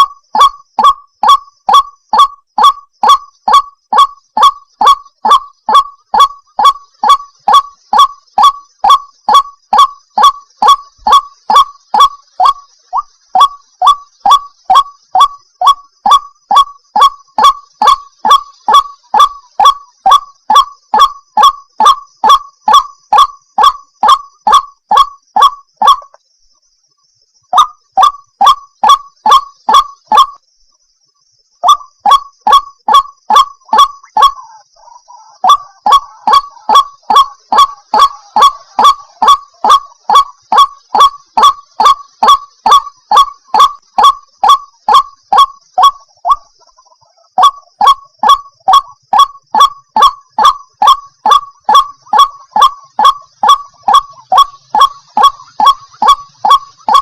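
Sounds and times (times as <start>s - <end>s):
waterhen call: 0.0s - 26.2s, 27.5s - 30.4s, 31.6s - 57.0s.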